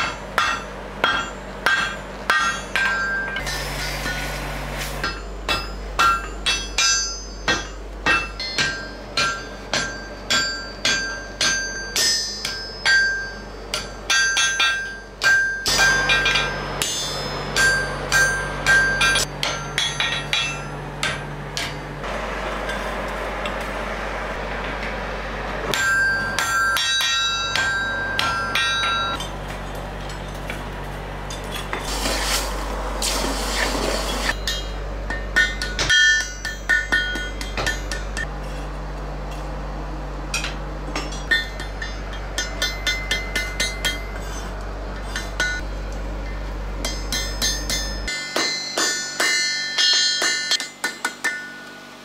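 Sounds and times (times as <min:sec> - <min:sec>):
hammer striking iron on anvil: 0:00.0 - 0:04.3, 0:05.0 - 0:23.0, 0:25.7 - 0:30.4, 0:33.9 - 0:38.4, 0:40.3 - 0:51.9.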